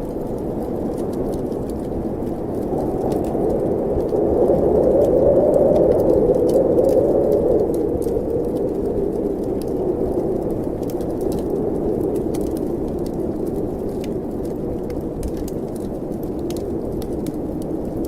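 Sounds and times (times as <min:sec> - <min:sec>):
wind blowing: 0:00.0 - 0:18.0
wood fire crackling: 0:00.0 - 0:18.0.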